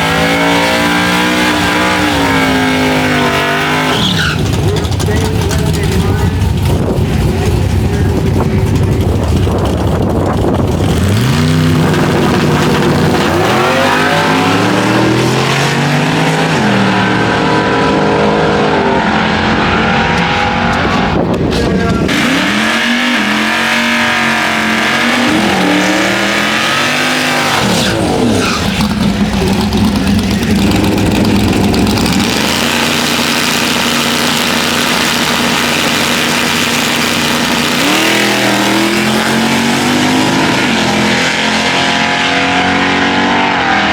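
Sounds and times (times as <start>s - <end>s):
race car engines accelerating: 0.0s - 43.9s.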